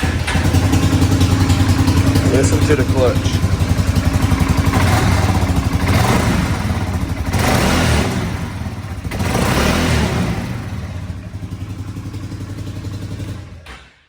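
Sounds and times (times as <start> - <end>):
atv engine revving: 0.0 - 13.7
loud clutch noise: 0.0 - 13.8.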